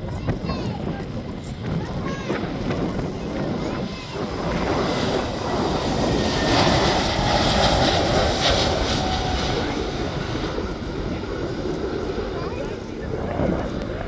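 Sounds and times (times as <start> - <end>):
jet airliner taking off: 0.1 - 14.0.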